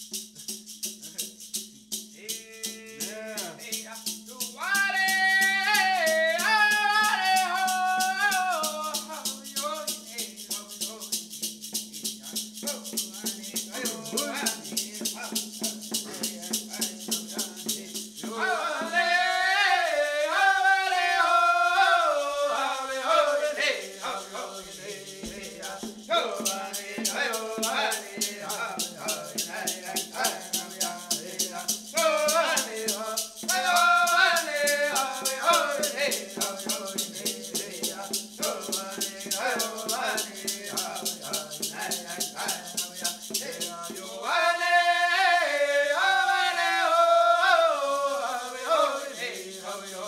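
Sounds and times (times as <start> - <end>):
hand rattle shaken: 0.0 - 50.0
voices singing: 2.2 - 50.0.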